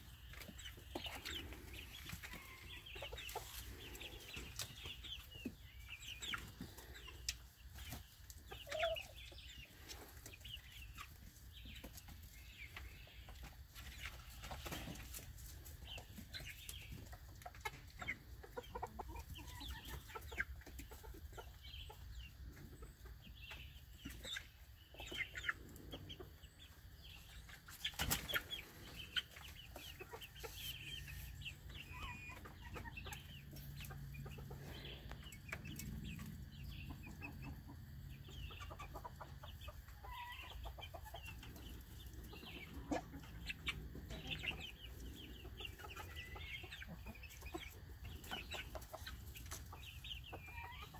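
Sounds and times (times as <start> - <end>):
chickens clucking: 0.0 - 50.9.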